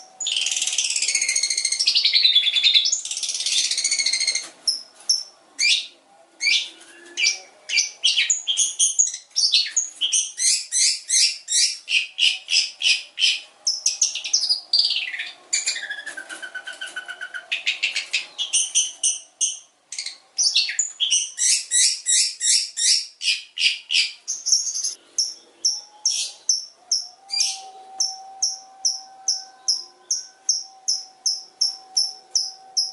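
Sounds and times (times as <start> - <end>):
bird singing trills: 0.0 - 32.9.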